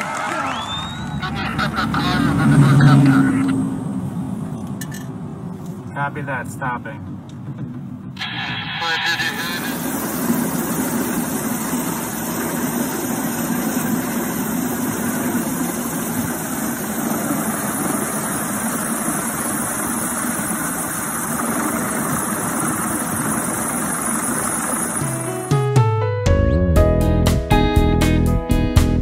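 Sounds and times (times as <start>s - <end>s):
helicopter hovering overhead: 0.0s - 25.8s.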